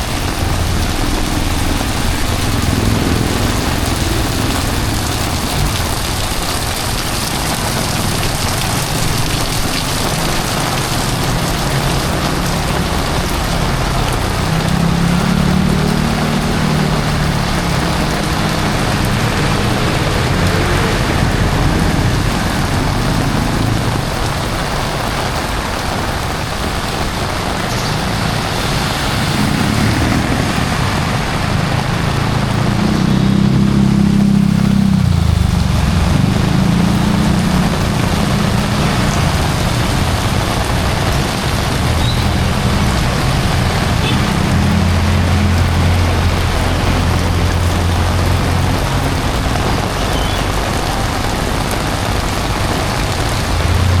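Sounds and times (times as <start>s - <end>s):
heavy rain hissing: 0.0s - 54.0s
vehicles passing: 0.0s - 54.0s.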